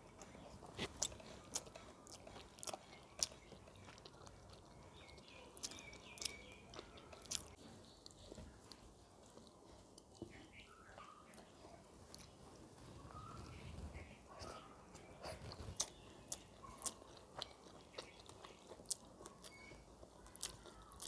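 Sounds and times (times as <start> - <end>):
person chewing and crunching food: 0.0 - 21.0.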